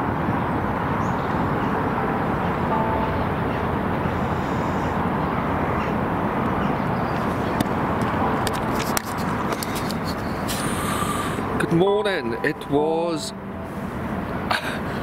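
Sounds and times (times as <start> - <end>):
low rush of outdoor noise: 0.0 - 15.0.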